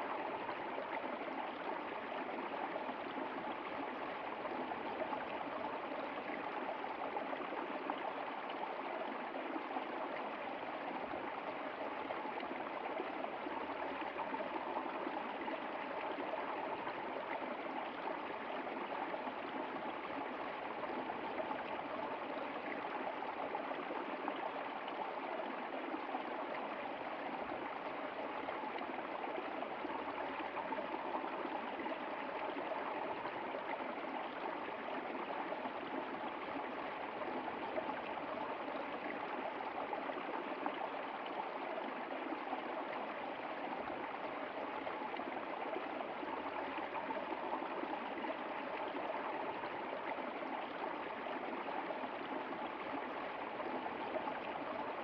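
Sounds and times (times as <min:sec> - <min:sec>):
stream running over stones: 0:00.0 - 0:55.0.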